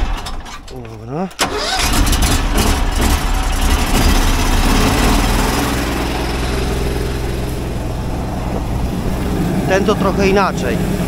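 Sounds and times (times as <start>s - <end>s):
engine drone: 1.4s - 11.0s.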